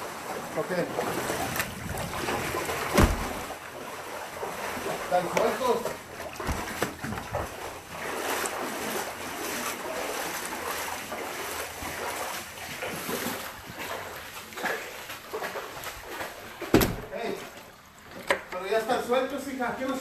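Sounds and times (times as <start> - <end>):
water sloshing around wading feet: 0.0 - 20.0.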